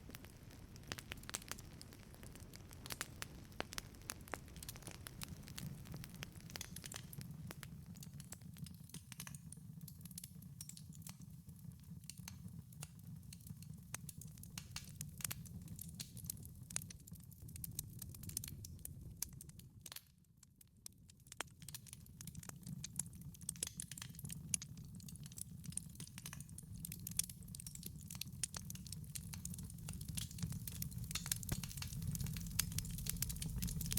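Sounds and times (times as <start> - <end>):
low rumble of flame: 0.0 - 19.8, 21.3 - 33.9
wood fire crackling and popping: 0.0 - 33.9.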